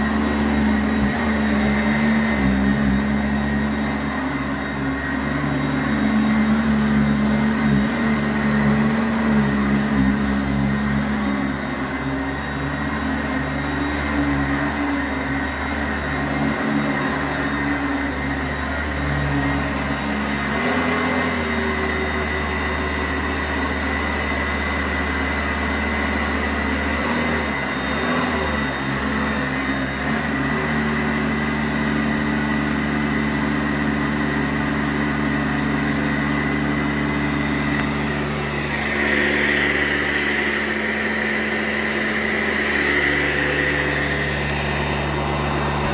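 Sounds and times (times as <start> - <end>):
vacuum cleaner running on carpet: 0.0 - 45.9.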